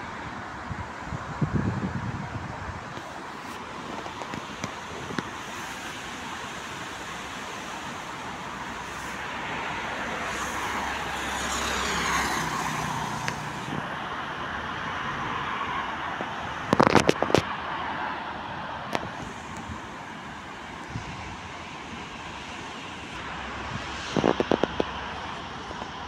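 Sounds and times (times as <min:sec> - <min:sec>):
car passing by: 0:00.0 - 0:26.0
road traffic: 0:00.0 - 0:26.0.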